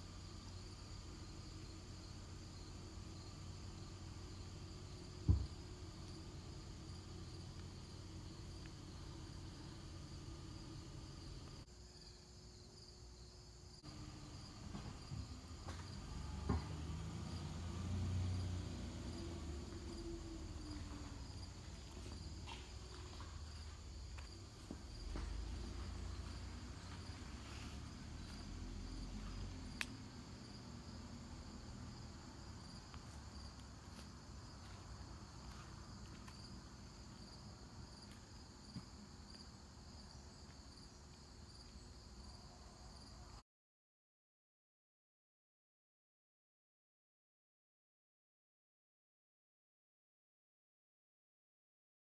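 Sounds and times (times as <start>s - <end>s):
crickets chirring: 0.0s - 43.4s.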